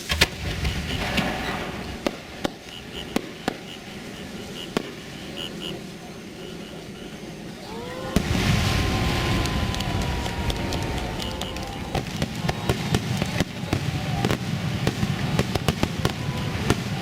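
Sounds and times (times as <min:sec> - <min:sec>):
fireworks bangs: 0:00.0 - 0:17.0
rising firework whistle: 0:00.0 - 0:17.0
rush of noise: 0:00.0 - 0:17.0.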